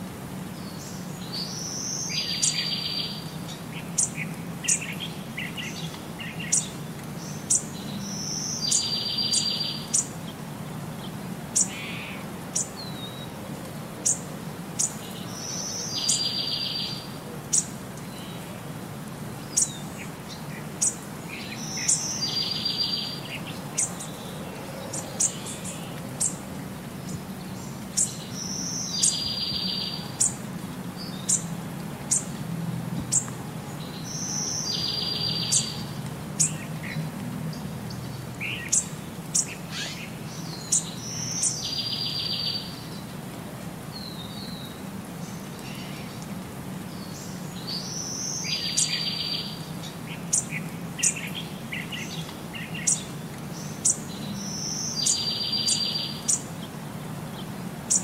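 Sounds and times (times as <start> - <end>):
small birds chirping: 0.5 - 58.0.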